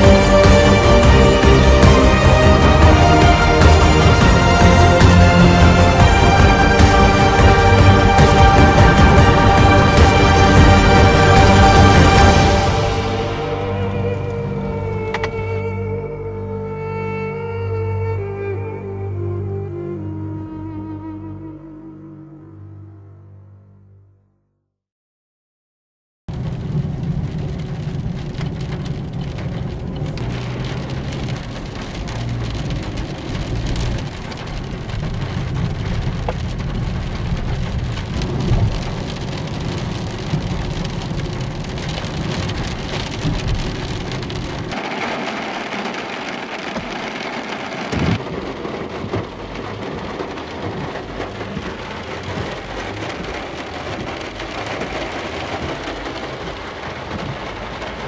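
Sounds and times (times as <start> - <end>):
heavy rain on car: 0.0 - 15.6, 26.3 - 58.0.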